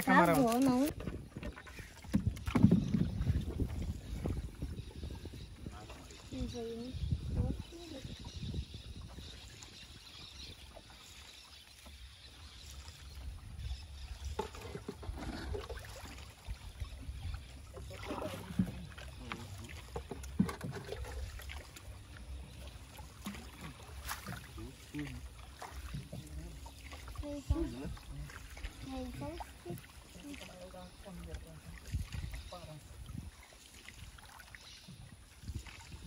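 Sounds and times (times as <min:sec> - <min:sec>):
water splashes and drips: 0:00.0 - 0:36.0.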